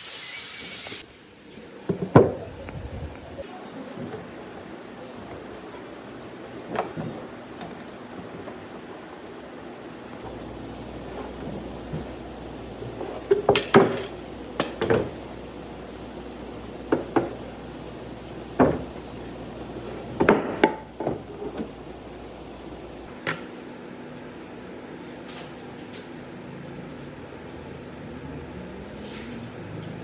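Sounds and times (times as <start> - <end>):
steady background hum: 0.6 - 30.0.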